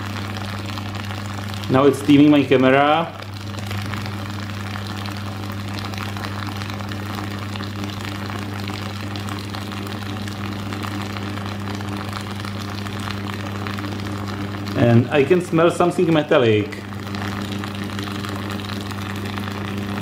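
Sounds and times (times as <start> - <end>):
water boiling crackling and fizzing: 0.0 - 20.0
water heater humming: 0.0 - 20.0.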